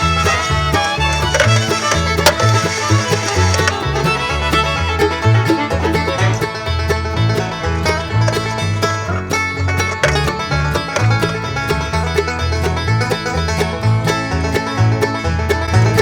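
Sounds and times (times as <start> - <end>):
upbeat bluegrass music: 0.0 - 16.0.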